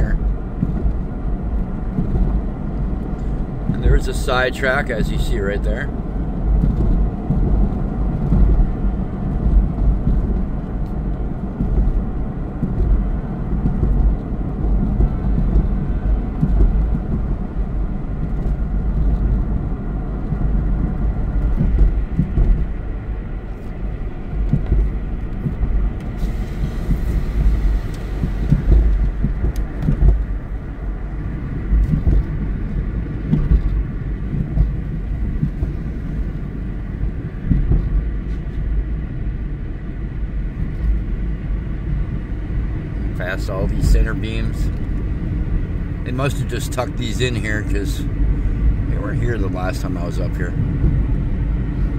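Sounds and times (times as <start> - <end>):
car road rumble on gravel: 0.0 - 51.9.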